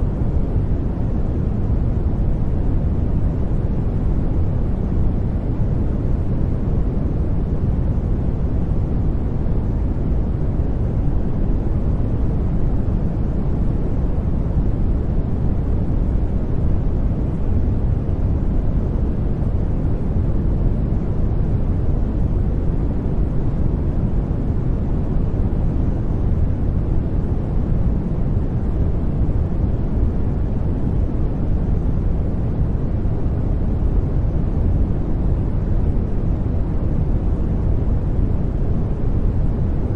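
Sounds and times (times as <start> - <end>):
deep white noise: 0.0 - 39.9.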